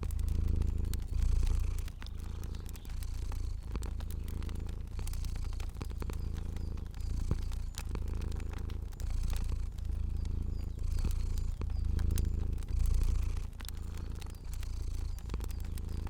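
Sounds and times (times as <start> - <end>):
cat purring: 0.0 - 16.0
wood fire crackling: 0.0 - 16.0.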